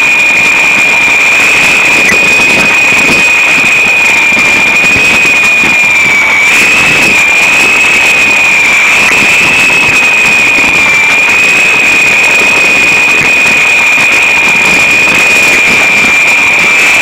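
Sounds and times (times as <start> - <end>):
small helicopter motor whine: 0.0 - 17.0.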